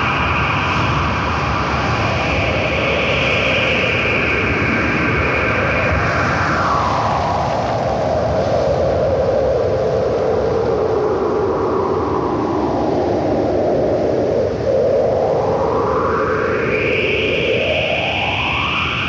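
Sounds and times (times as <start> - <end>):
rushing wind-like noise: 0.0 - 19.0.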